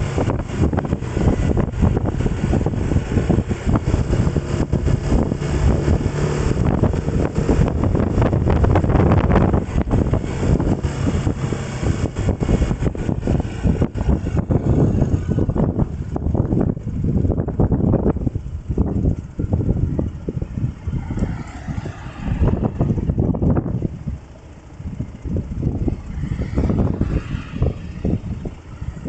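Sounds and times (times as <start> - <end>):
vehicle engine running: 0.0 - 29.0
wind buffeting microphone: 0.0 - 29.0.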